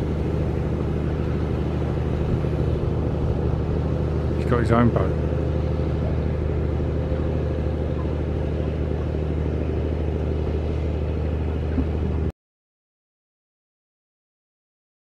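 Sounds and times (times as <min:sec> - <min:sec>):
ferry engine drone: 0:00.0 - 0:12.3.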